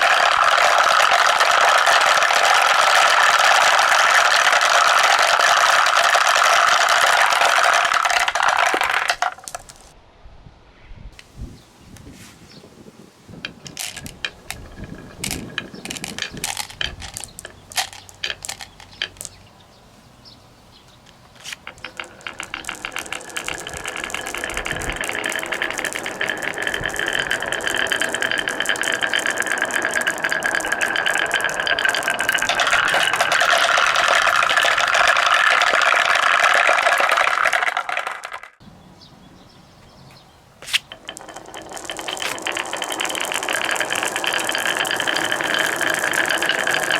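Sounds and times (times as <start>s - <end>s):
marbles rolling on wooden tracks: 0.0s - 10.0s, 13.3s - 19.5s, 21.1s - 38.6s, 40.7s - 46.9s.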